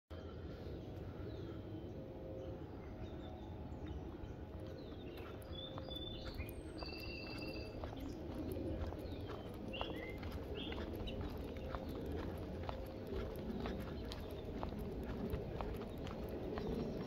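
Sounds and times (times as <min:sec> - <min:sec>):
birds chirping: 0:00.1 - 0:17.0
low background rumble: 0:00.1 - 0:17.0.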